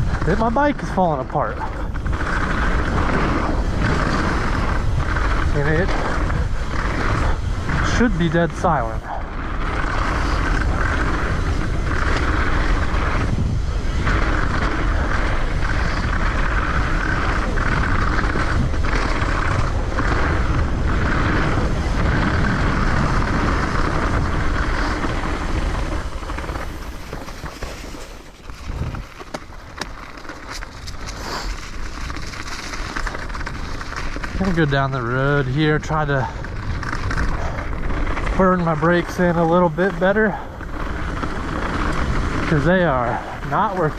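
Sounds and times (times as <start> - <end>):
bike tyres rolling on ground: 0.0 - 43.9
wind on microphone: 0.0 - 43.9.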